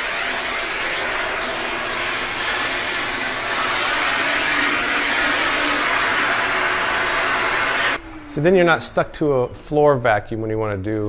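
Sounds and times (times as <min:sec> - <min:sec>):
vacuum cleaner running: 0:00.0 - 0:09.2.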